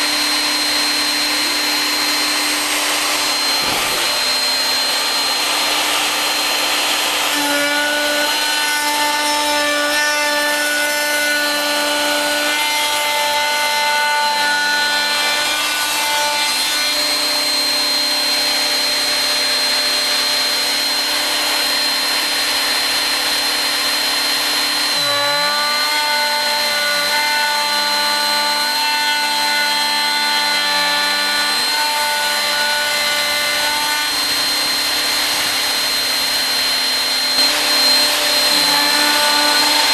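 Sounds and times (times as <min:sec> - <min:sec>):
rasping cut through wood: 0:00.0 - 0:39.9
router cutter whining: 0:00.0 - 0:39.9.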